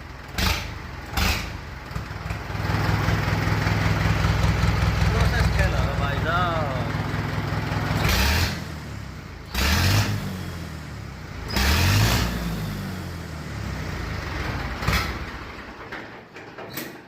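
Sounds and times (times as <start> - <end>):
tractor diesel engine revving: 0.0 - 15.9.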